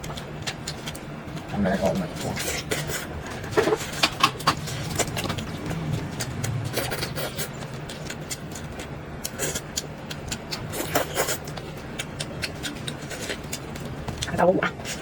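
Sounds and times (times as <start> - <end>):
low steady hum: 0.0 - 15.0
wet chewing sounds: 0.0 - 15.0.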